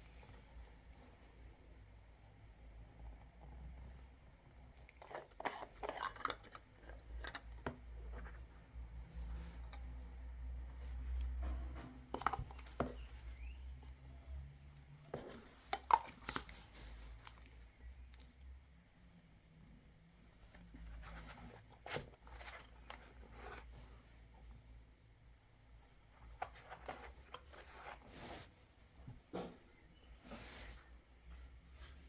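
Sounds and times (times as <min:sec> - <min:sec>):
rustling and scraping: 0:02.4 - 0:18.7, 0:20.1 - 0:24.6, 0:25.9 - 0:32.0.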